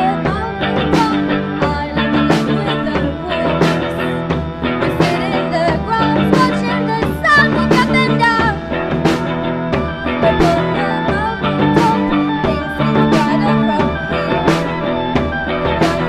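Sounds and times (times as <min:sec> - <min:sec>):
drum kit steady beat: 0:00.0 - 0:16.0
electric guitar: 0:00.0 - 0:16.0
keyboard: 0:00.0 - 0:16.0
woman singing: 0:00.0 - 0:16.0.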